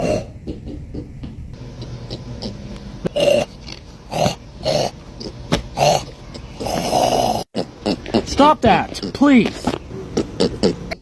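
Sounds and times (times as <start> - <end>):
pig grunts and oinks: 0.0 - 0.8, 1.6 - 11.0
low steady background hum: 0.0 - 11.0.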